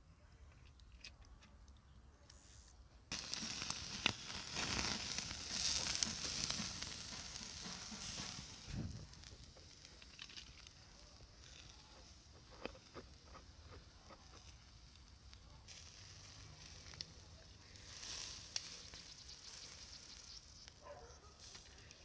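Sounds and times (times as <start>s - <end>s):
crackling pops: 3.1s - 22.0s
meat sizzling on a grill: 3.1s - 22.0s.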